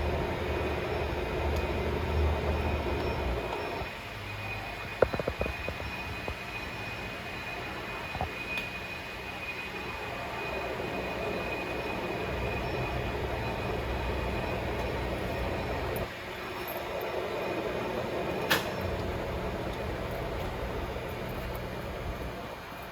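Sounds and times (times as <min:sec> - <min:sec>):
lathe mechanical hum: 0:00.0 - 0:22.9.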